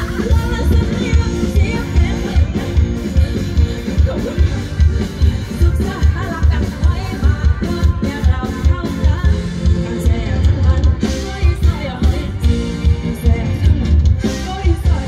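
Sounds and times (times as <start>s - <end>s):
woman singing into a microphone: 0.0s - 4.6s, 5.2s - 15.0s
band playing: 0.0s - 15.0s.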